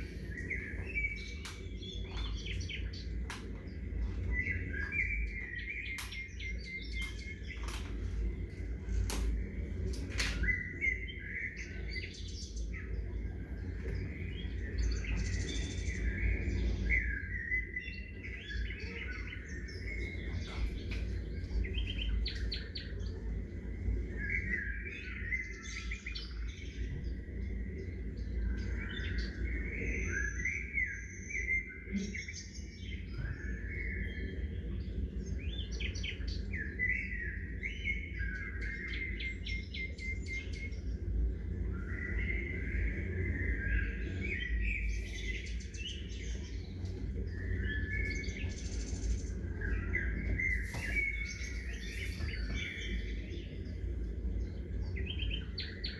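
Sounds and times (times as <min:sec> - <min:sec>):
songbirds chirping: 0:00.0 - 0:55.9
steady low rumble: 0:00.0 - 0:55.9.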